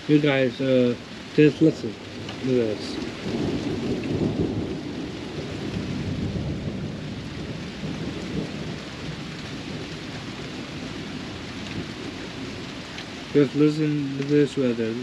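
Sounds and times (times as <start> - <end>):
steady rain: 0.0 - 15.0
thunder rumbling: 0.9 - 15.0.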